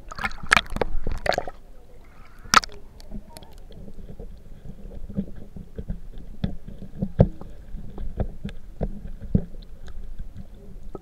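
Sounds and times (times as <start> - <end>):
underwater knocks and clicks: 0.0 - 1.6, 2.5 - 11.0
muffled underwater water rumble: 0.0 - 11.0.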